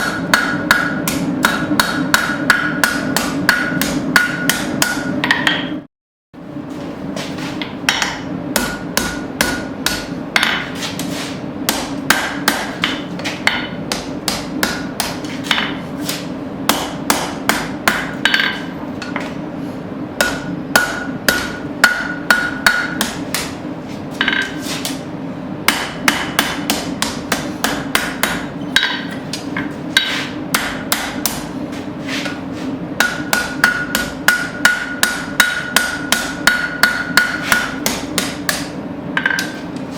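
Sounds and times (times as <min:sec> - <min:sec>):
hammer striking steel on anvil: 0:00.0 - 0:05.8, 0:07.6 - 0:11.1, 0:11.7 - 0:19.4, 0:20.2 - 0:23.6, 0:24.2 - 0:25.1, 0:25.7 - 0:31.5, 0:33.0 - 0:39.7
steady low hum: 0:00.0 - 0:39.9.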